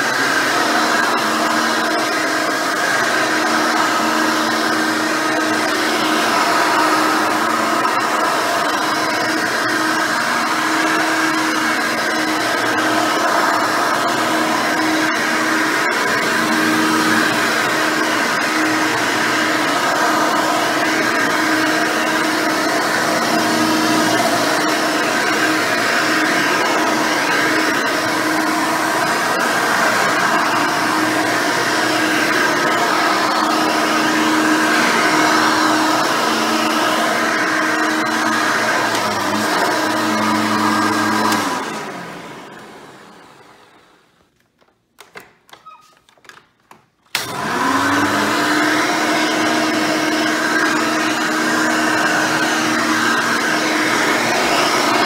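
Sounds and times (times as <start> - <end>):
vacuum cleaner running: 0.0 - 44.4, 47.1 - 55.0.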